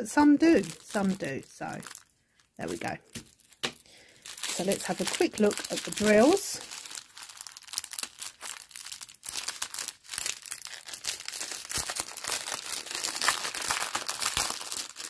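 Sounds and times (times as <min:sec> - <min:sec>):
plastic bags crinkling: 0:00.1 - 0:15.0.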